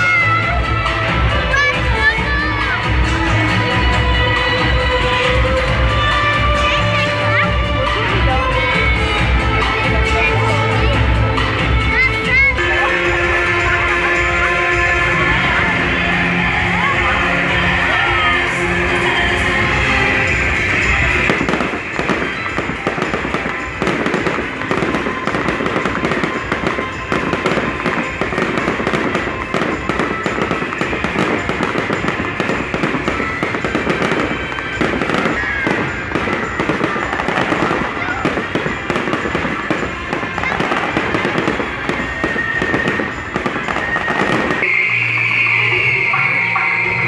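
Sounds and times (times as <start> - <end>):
fireworks crackling and banging: 0.0 - 47.0.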